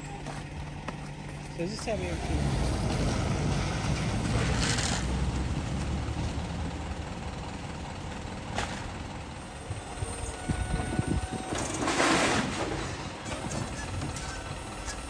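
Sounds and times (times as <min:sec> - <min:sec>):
diesel engine idling: 0:00.0 - 0:11.5, 0:13.0 - 0:15.0.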